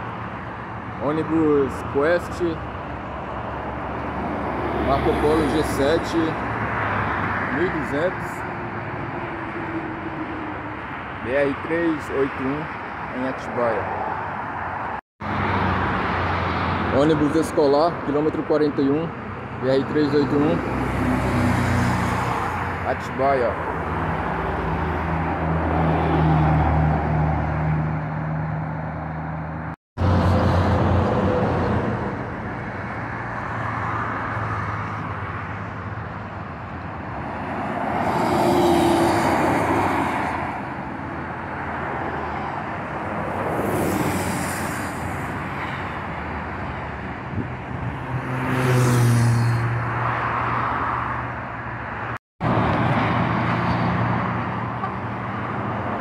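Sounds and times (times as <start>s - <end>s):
trucks and coaches passing: 0.0s - 56.0s.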